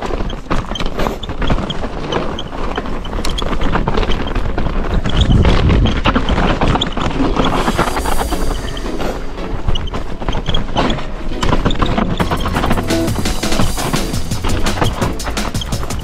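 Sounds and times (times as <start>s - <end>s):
bike rattling over bumps: 0.0s - 8.1s, 9.5s - 16.0s
wind on microphone: 0.0s - 12.8s
bike tyres on dirt: 0.0s - 16.0s.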